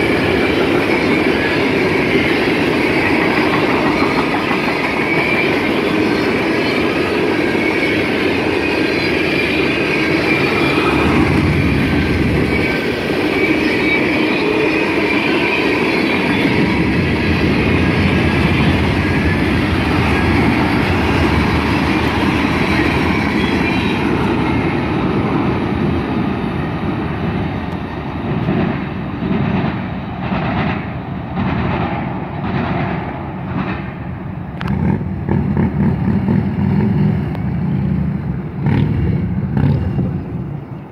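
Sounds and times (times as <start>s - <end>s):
freight train rumbling and rattling: 0.0s - 40.9s.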